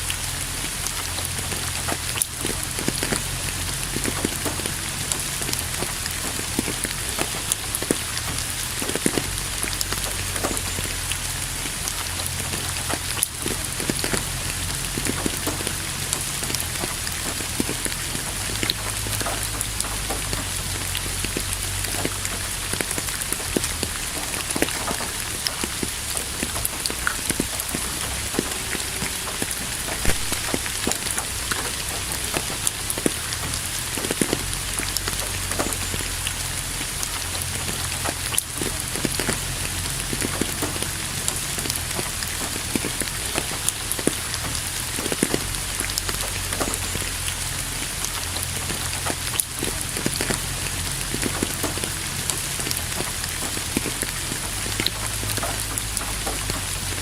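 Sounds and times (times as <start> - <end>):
rain drops ticking: 0.0 - 57.0
rain hiss: 0.0 - 57.0.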